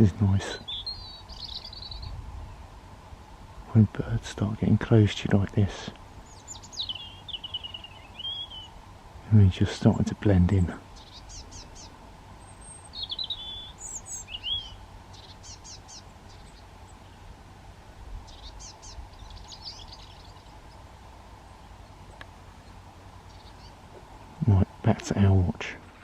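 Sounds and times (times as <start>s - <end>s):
faint outdoor background noise: 0.0s - 26.0s
songbirds chirping: 0.0s - 26.0s.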